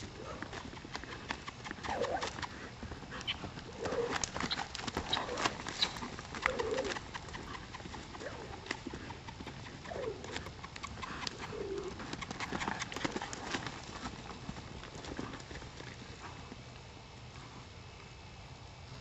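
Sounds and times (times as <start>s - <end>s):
horse hoofbeats on dirt: 0.0s - 17.7s.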